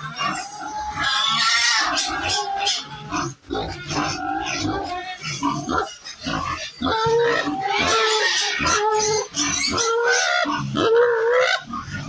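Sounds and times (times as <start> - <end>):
pigs squealing and grunting: 0.0 - 12.0.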